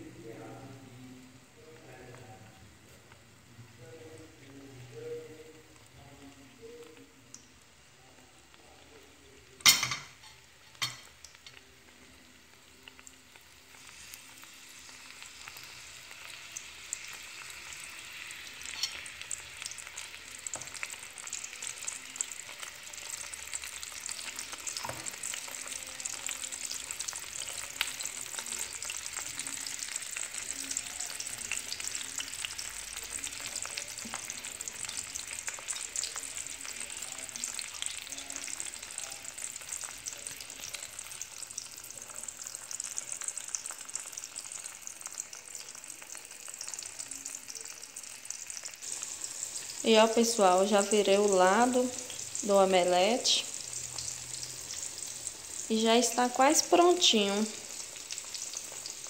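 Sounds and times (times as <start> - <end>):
omelette sizzling in a pan: 0.0 - 59.0.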